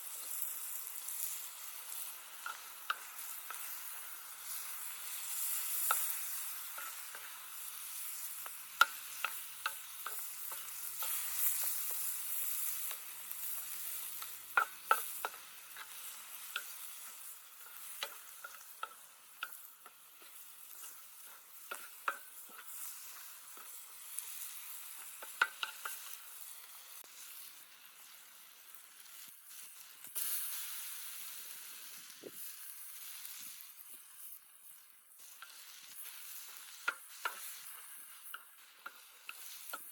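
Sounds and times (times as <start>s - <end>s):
food sizzling in a pan: 0.0s - 39.9s
spoon scraping against a pan: 0.2s - 28.2s, 29.0s - 39.9s.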